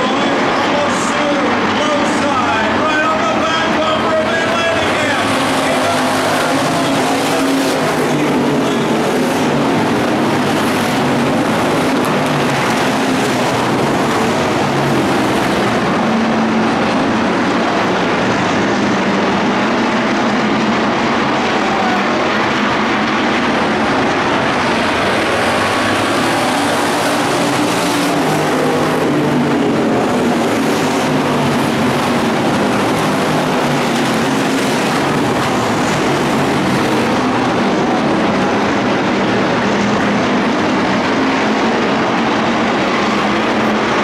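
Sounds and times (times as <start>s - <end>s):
race car engines droning: 0.0s - 44.0s.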